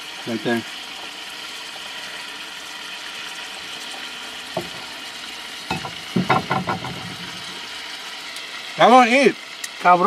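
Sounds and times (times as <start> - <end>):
meat sizzling in skillet: 0.0 - 10.0.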